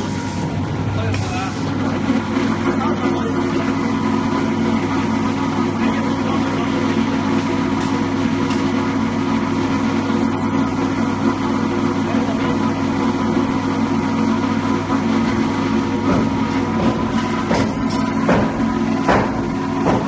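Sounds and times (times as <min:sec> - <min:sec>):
machine motor and blower hum: 0:00.0 - 0:20.0.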